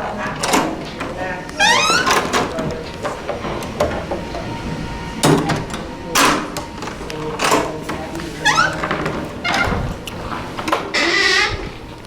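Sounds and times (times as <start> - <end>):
heavy door closing with latch clunk: 0.0 - 11.8.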